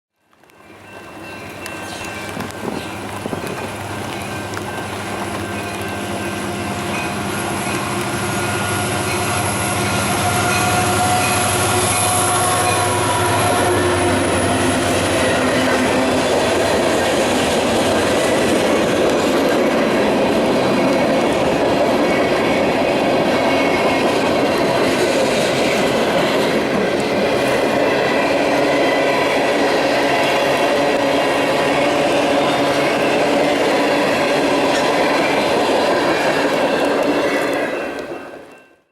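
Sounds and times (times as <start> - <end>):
clickety-clack over rail joints: 0.3 - 38.9
diesel locomotive engine drone: 0.4 - 38.9
freight cars rolling: 0.5 - 38.5.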